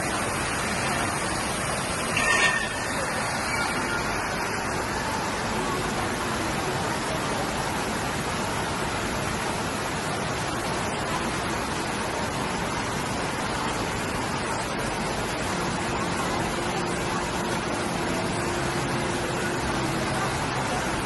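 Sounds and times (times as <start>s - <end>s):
water fountain splashing: 0.0s - 21.0s.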